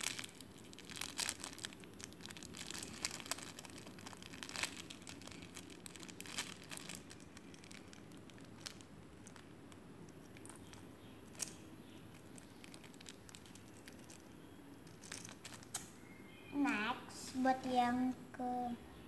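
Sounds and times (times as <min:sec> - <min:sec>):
plastic bag crinkling: 0:00.0 - 0:15.9.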